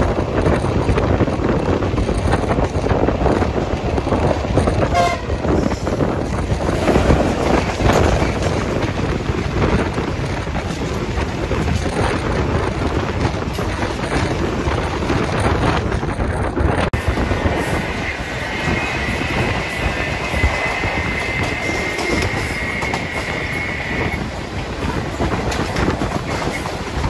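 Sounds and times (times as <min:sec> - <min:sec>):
passenger train passing: 0:00.0 - 0:27.0
wind buffeting microphone: 0:00.0 - 0:27.0.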